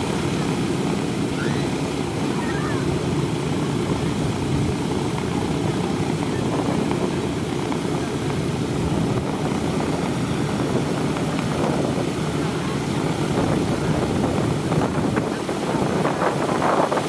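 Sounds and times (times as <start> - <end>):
radial piston aircraft engines running: 0.0 - 17.0.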